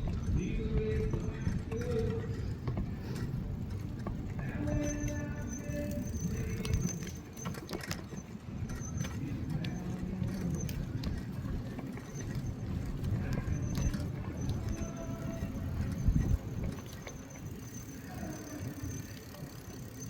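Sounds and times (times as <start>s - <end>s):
bicycle rattles and clicks: 0.0s - 20.0s
faint squeaks: 0.0s - 20.0s
wind and tyre rumble: 0.0s - 20.0s.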